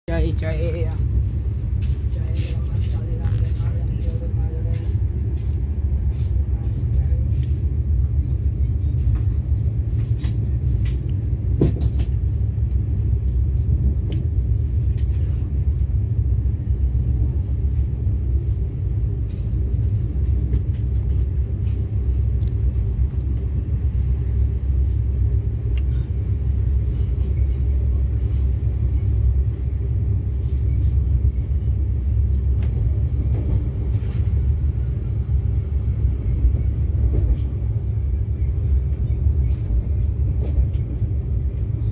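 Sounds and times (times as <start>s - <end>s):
vehicle rumbling: 0.1s - 41.9s.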